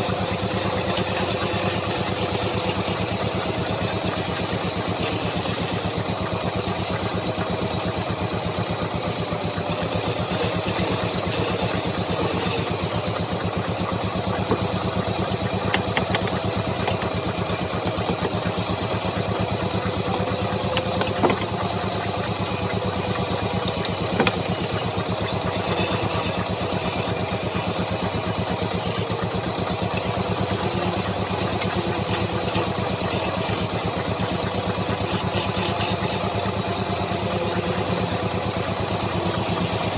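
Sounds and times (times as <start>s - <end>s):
wood lathe motor hum: 0.0s - 39.9s.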